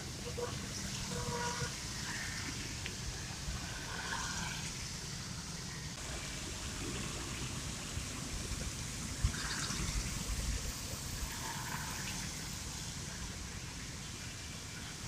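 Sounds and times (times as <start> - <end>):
tyres hissing on wet road: 0.0 - 15.0.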